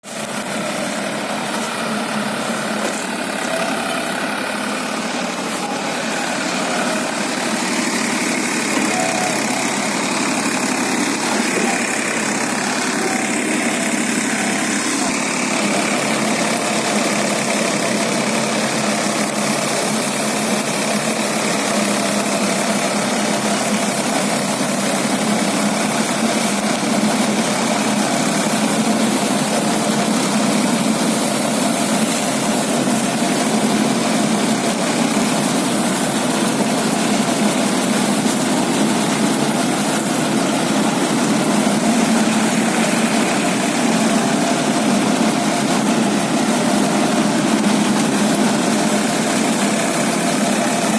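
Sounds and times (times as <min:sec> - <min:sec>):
tractor baler engine drone: 0:00.0 - 0:50.9
machinery hum: 0:00.1 - 0:50.9.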